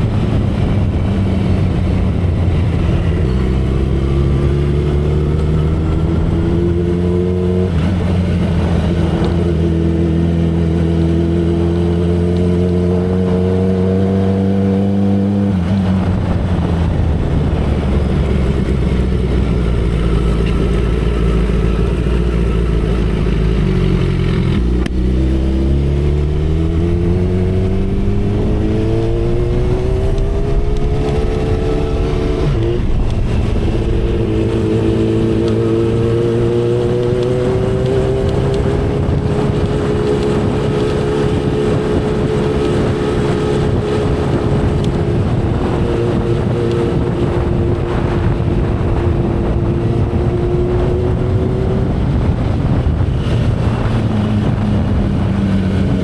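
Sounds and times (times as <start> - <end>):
motorcycle engine at speed: 0.0 - 56.0
wind rush: 0.0 - 56.0.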